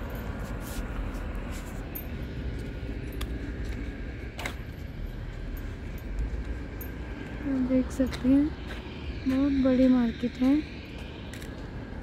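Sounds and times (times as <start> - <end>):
distant traffic rumble: 0.0 - 12.0.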